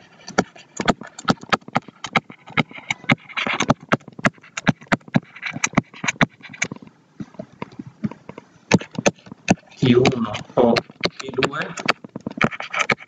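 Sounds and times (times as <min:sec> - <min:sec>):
stylus tapping on tablet screen: 0:00.3 - 0:13.0.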